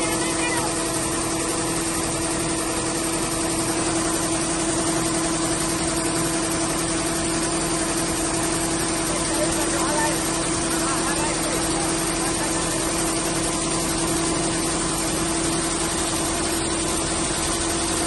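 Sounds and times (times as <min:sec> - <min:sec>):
combine harvester engine humming: 0:00.0 - 0:18.0.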